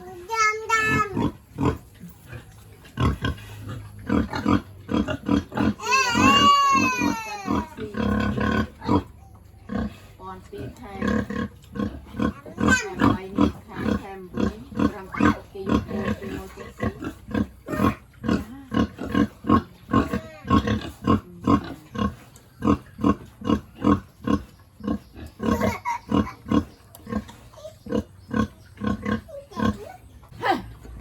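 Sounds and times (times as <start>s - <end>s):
pigs grunting: 0.8s - 31.0s.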